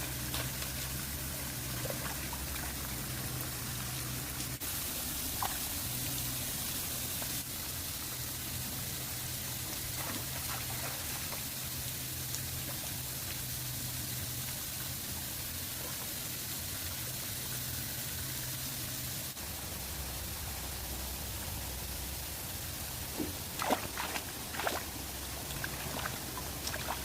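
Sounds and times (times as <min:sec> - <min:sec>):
faint water drips: 0:00.0 - 0:19.4, 0:20.9 - 0:27.0
running water rushing: 0:00.0 - 0:27.0.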